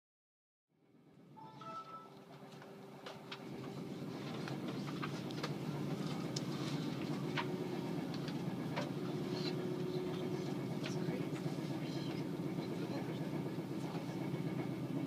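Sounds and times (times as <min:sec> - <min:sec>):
train carriage rumbling on track: 0:01.6 - 0:15.0.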